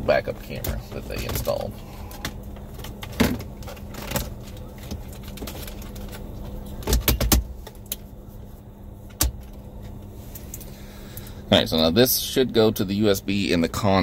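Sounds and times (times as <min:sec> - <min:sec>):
air conditioning hum: 0:00.0 - 0:14.0.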